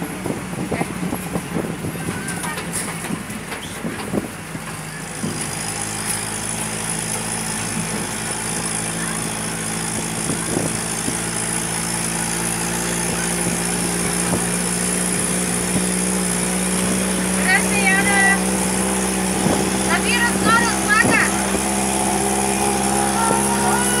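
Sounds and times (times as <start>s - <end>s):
road train engine droning: 0.0s - 24.0s.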